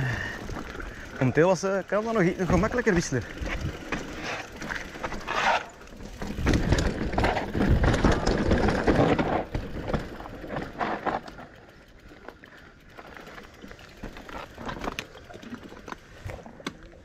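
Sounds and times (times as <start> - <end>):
bike knocking and rattling: 0.0 - 17.0
bike tyres rolling on dirt: 0.0 - 17.0.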